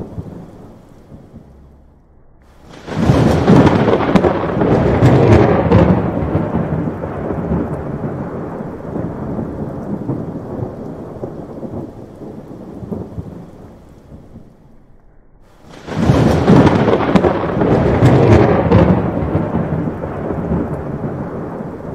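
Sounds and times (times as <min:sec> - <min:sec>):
thunder crack and rumble: 0:00.0 - 0:21.9.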